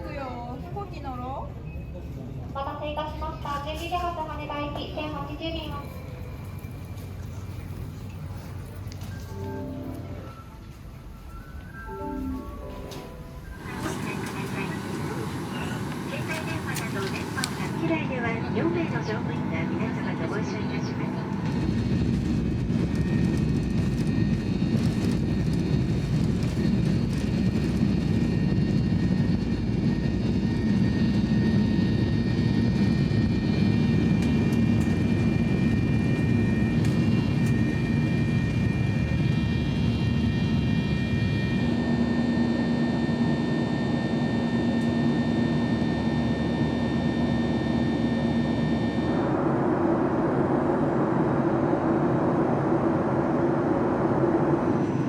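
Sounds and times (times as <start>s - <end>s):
jet engines from inside cabin: 0.0s - 55.0s.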